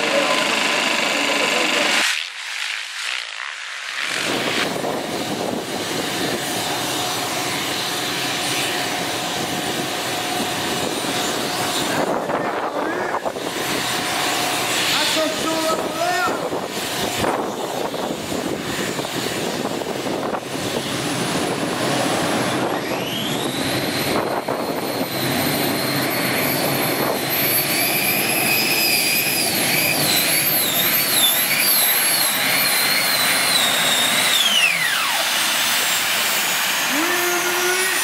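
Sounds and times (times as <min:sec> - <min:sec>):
gas turbine engines whining: 0:00.0 - 0:38.0.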